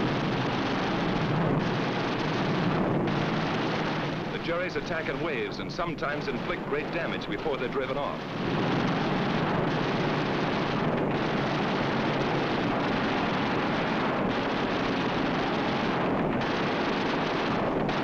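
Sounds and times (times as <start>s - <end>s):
warplane engines roaring: 0.0s - 18.0s.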